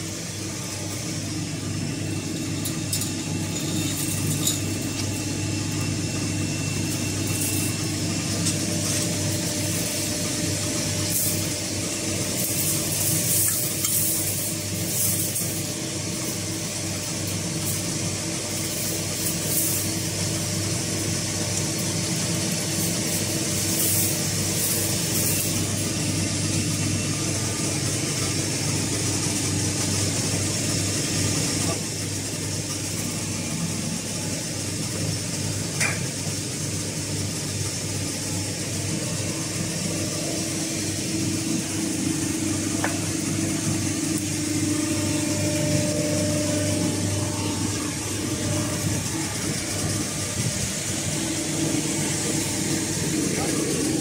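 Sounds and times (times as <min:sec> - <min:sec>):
baler machinery humming: 0:00.0 - 0:54.0
machine hiss: 0:00.0 - 0:54.0.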